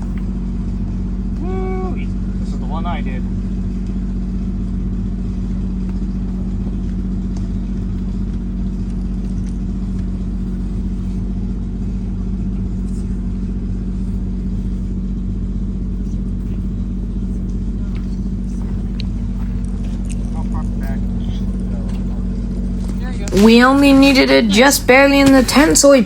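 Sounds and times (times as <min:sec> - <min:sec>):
model locomotive motor droning: 0:00.0 - 0:26.0.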